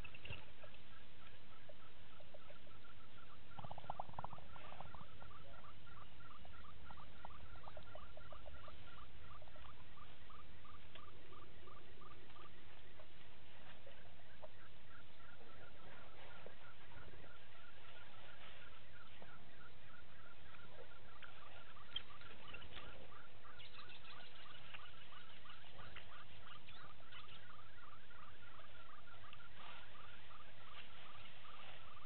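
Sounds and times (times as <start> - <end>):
low outdoor hiss: 0.0 - 32.0.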